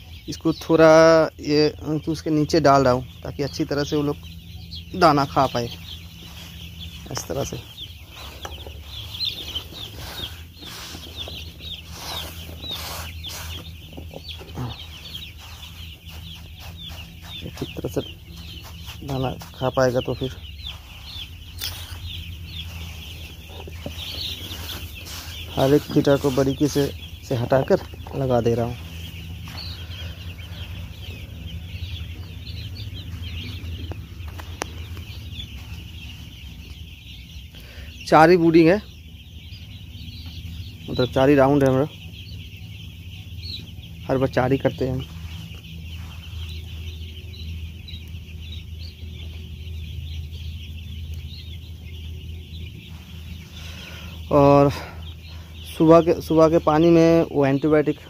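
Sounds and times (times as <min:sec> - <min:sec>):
chicks peeping: 0:00.0 - 0:58.0
steady low hum: 0:00.0 - 0:58.0.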